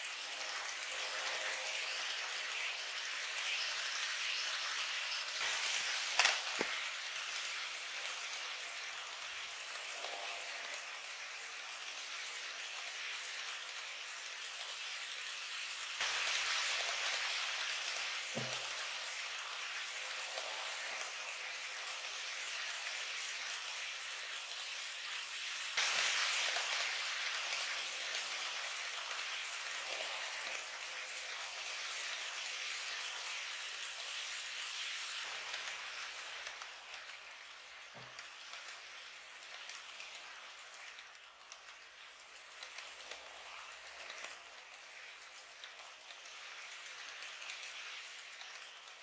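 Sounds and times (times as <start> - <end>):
model train rattling on track: 0.0 - 49.0.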